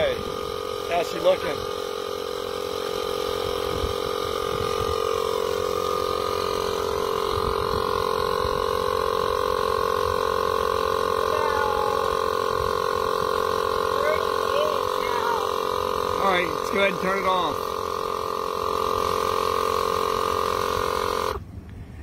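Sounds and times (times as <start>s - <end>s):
air compressor motor humming: 0.0s - 21.6s.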